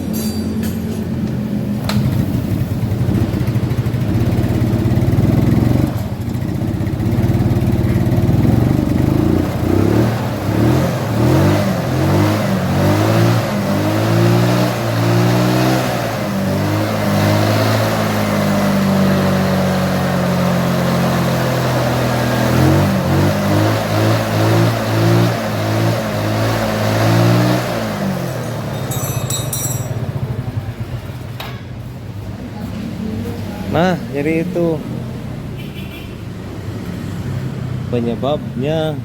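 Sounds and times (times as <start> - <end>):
scooter engine revving: 1.1 - 38.6.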